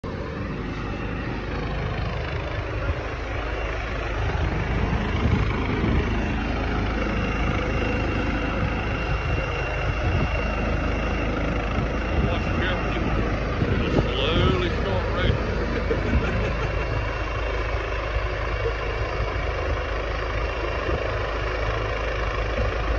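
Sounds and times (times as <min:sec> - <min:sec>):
helicopter turbine and rotor: 0:00.0 - 0:22.9
faint high whine: 0:00.1 - 0:22.7.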